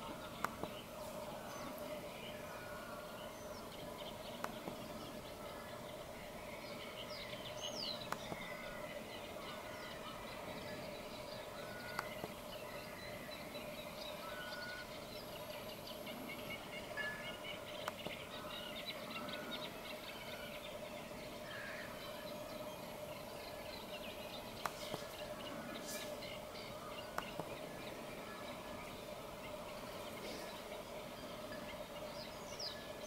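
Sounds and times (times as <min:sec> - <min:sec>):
birds chirping and calling: 0:00.0 - 0:33.0
steady low hum: 0:00.0 - 0:33.0.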